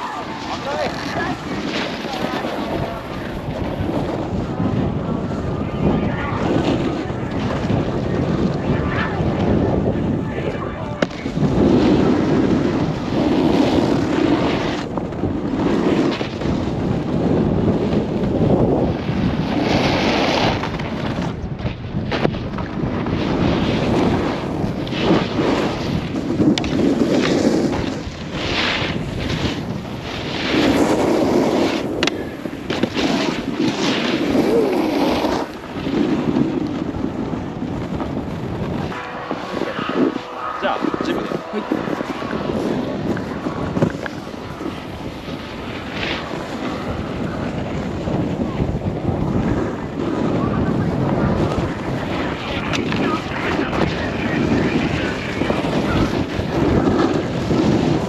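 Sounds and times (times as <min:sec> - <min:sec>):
snowboard edges scraping snow: 0:00.0 - 0:58.0
wind rushing over microphone: 0:00.0 - 0:58.0.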